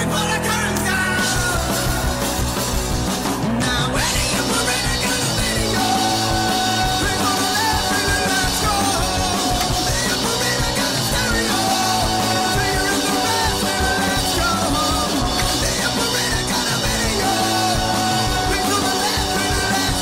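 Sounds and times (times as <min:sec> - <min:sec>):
person singing: 0:00.0 - 0:02.5, 0:03.4 - 0:20.0
rock band playing: 0:00.0 - 0:20.0.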